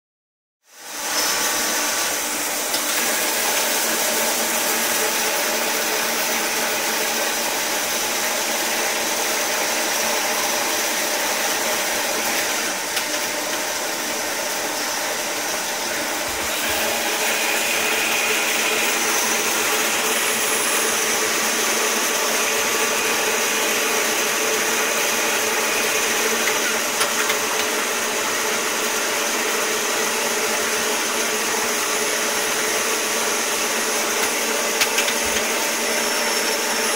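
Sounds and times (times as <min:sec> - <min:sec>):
lathe spindle whirring: 0:00.7 - 0:36.9
cutting oil streaming: 0:01.0 - 0:36.9.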